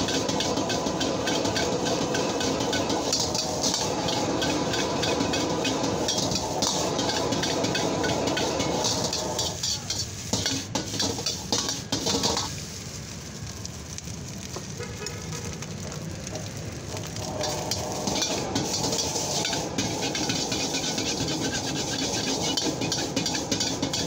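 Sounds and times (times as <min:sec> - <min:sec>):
metal ladle scraping wok: 0:00.0 - 0:12.6, 0:17.1 - 0:24.0
fried rice sizzling: 0:00.0 - 0:24.0.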